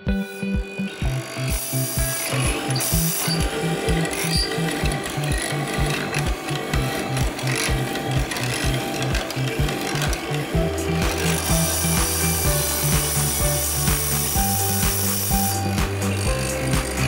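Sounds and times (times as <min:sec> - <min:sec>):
background music with low beat: 0:00.0 - 0:17.0
mortiser boring through wood: 0:00.0 - 0:17.0.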